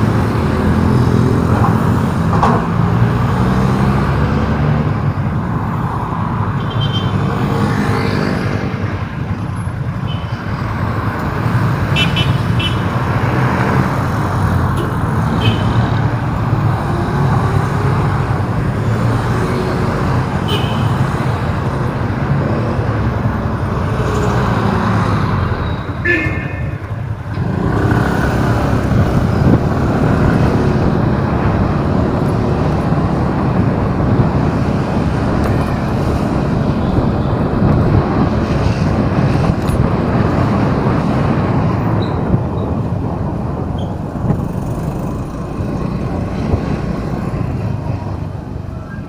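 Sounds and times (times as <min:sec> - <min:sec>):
city traffic noise: 0:00.0 - 0:49.0.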